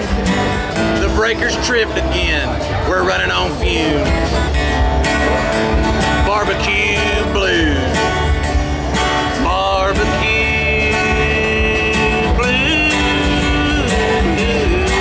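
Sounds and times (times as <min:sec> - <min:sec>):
bending slide guitar lead: 0:00.0 - 0:15.0
country blues band playing: 0:00.0 - 0:15.0.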